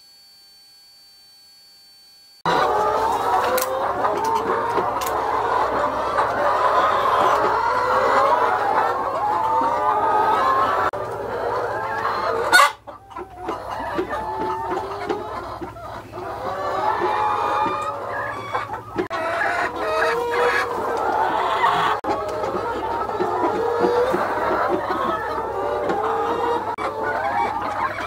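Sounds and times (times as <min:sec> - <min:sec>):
hens clucking: 0:02.4 - 0:28.0.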